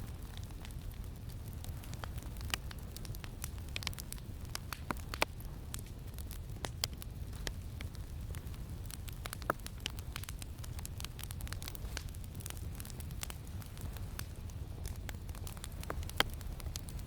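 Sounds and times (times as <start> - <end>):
campfire crackling and popping: 0.0 - 17.0
low wind rumble: 0.0 - 17.0.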